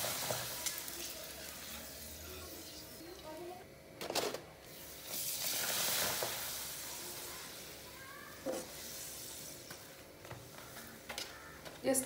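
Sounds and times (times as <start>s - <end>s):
pappadam sizzling in hot oil: 0.0s - 3.4s, 4.7s - 11.6s.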